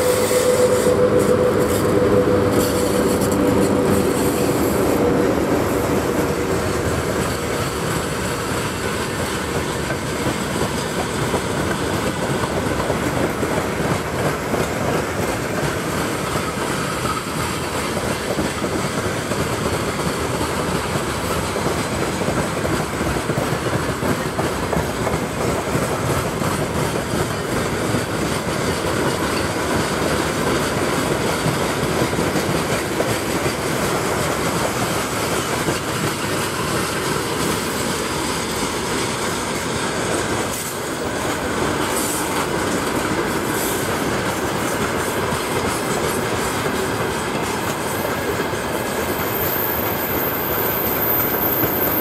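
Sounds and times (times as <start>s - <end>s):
steel train wheels on rails: 0.0s - 52.0s.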